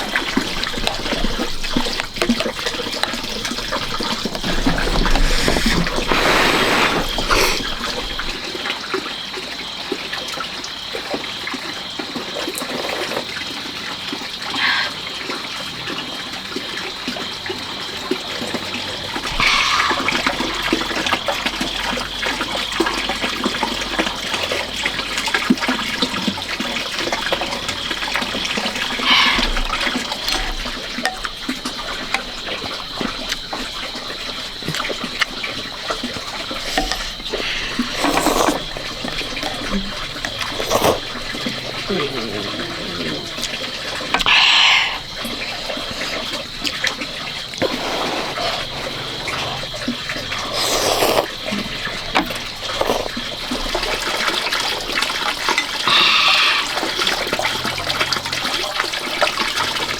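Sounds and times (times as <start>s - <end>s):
water running and trickling: 0.0s - 59.9s.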